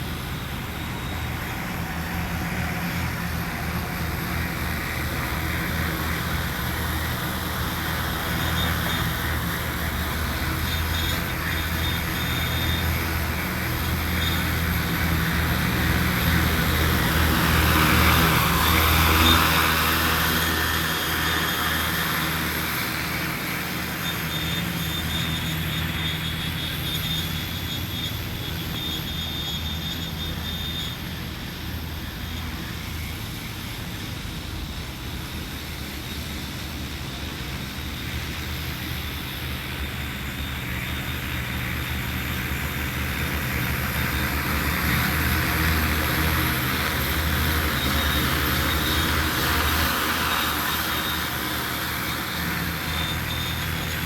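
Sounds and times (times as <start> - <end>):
drone rotors humming: 0.0 - 54.0.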